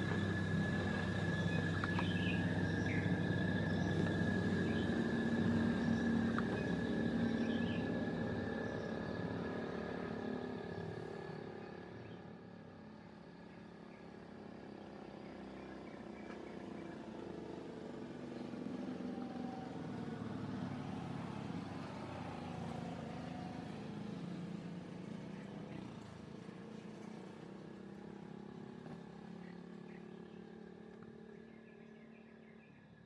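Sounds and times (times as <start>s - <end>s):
vehicle engine passing by: 0.0s - 12.4s, 13.2s - 33.0s.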